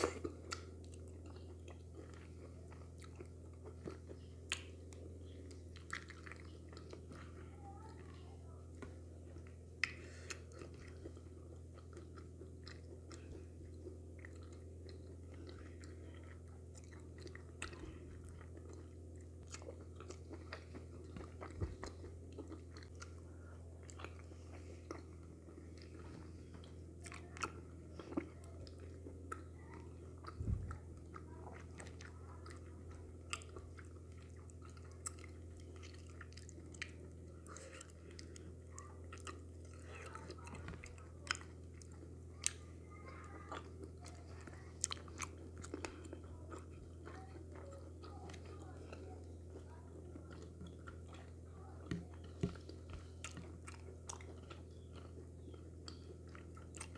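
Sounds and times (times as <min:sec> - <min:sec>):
person chewing wet mouth sounds: 0:00.0 - 0:56.9
steady low hum: 0:00.0 - 0:56.9.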